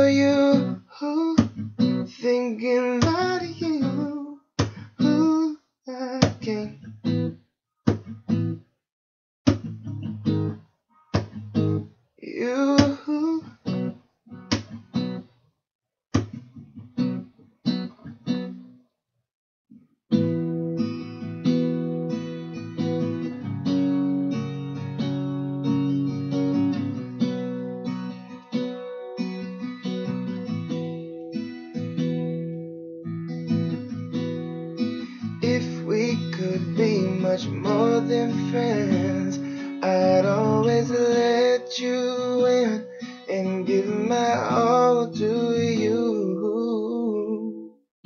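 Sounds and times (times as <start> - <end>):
acoustic guitar strumming: 0.0 - 5.5, 6.2 - 8.6, 9.5 - 15.3, 16.2 - 18.6, 20.1 - 47.2.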